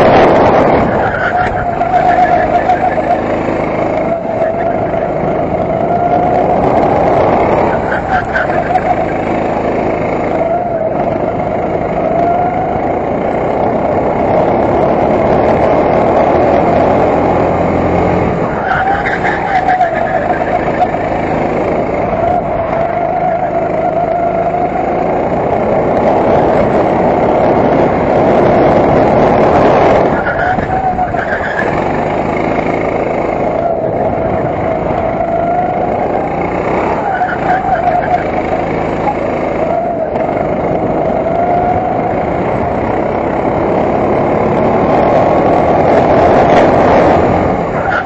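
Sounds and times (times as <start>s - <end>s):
racing kart engine: 0.0s - 48.0s.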